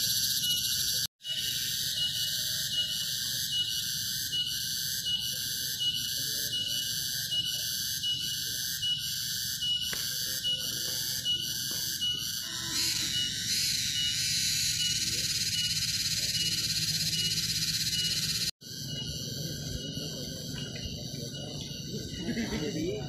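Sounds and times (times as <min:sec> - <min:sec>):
forest insects trilling: 0:00.0 - 0:23.0.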